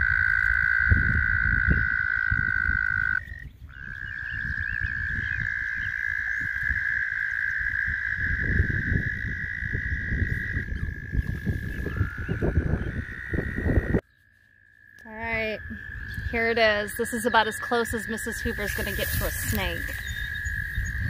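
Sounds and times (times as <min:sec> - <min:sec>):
frogs trilling: 0:00.0 - 0:21.0.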